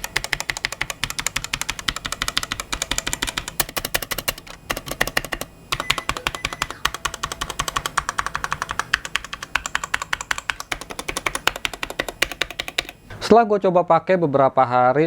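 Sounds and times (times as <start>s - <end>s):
fast typing on mechanical keyboard: 0.0s - 13.0s.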